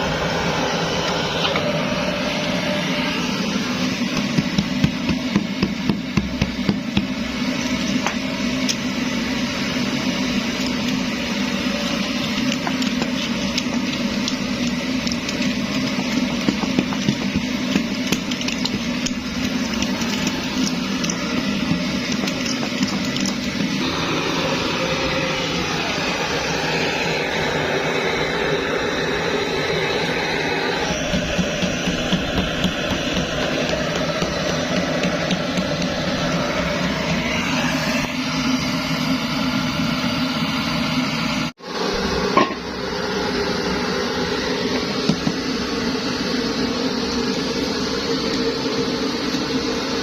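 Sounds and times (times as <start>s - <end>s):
stove burner rushing: 0.0s - 50.0s.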